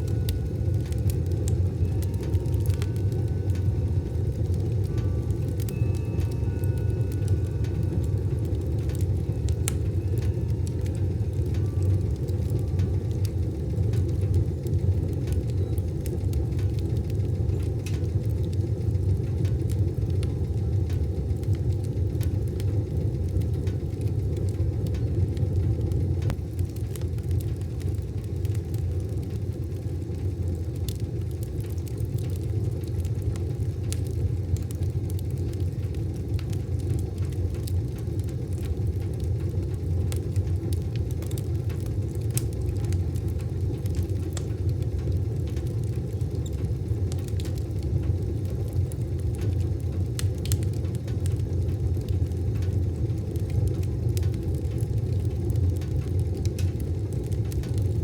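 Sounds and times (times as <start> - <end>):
fire crackling and popping: 0.0 - 58.0
wood fire rumbling: 0.0 - 58.0.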